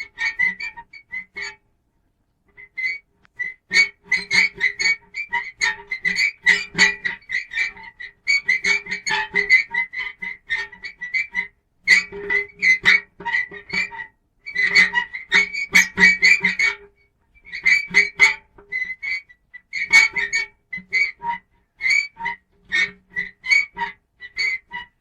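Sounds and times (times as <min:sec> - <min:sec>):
metal squeaking and creaking: 0:00.0 - 0:01.6, 0:02.6 - 0:25.0.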